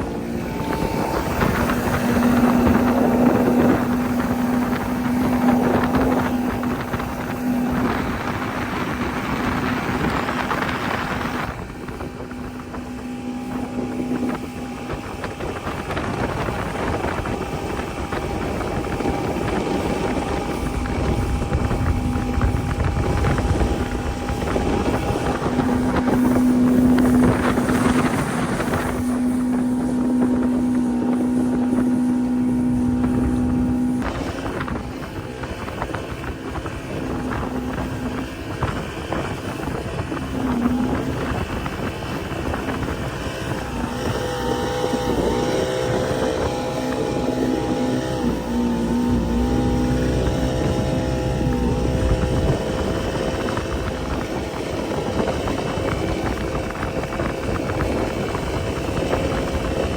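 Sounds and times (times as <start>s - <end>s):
outboard motor running: 0.0s - 59.9s
wind on microphone: 0.0s - 59.9s.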